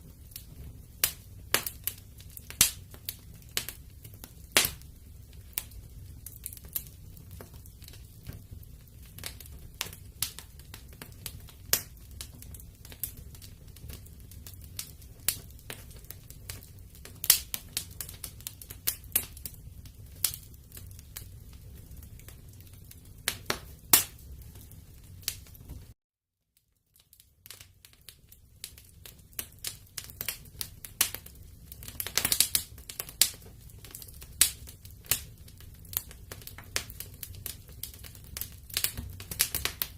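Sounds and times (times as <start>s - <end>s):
low fire rumble: 0.0s - 26.0s, 27.5s - 39.9s
wood fire crackling and popping: 0.0s - 26.0s, 26.6s - 39.9s.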